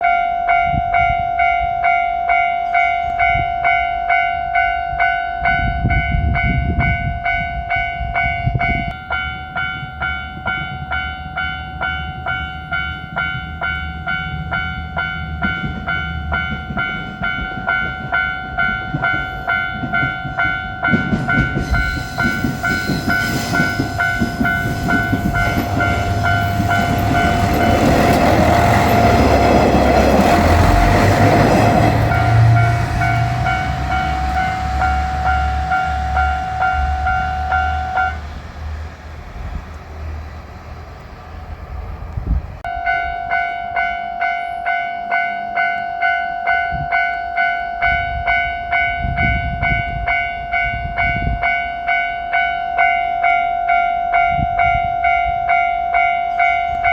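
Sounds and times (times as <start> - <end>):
level crossing alarm bell: 0.0 - 38.2, 42.7 - 56.9
diesel railcar rumble: 0.0 - 56.9.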